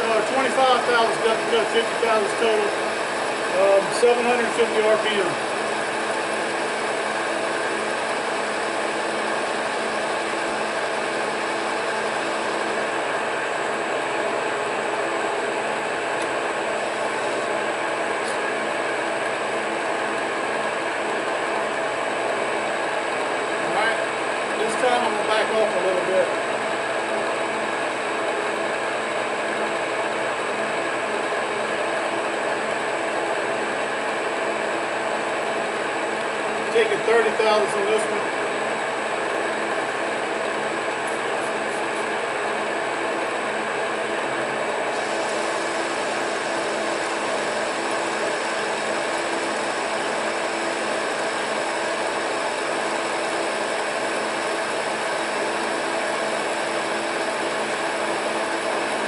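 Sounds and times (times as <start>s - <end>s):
metal lathe running: 0.0s - 59.0s.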